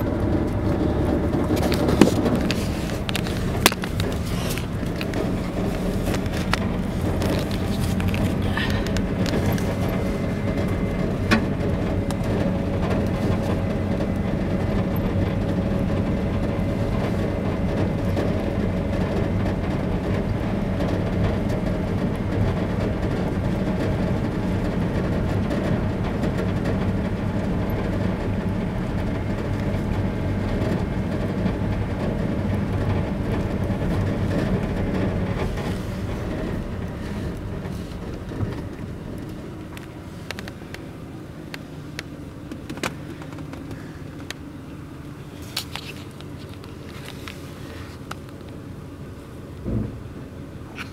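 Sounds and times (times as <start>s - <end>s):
car rumble on gravel: 0.0s - 50.9s.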